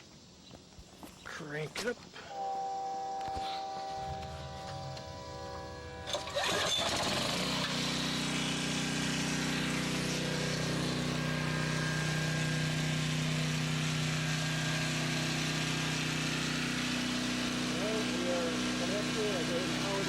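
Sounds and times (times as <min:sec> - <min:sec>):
portable generator running: 0:02.2 - 0:20.0.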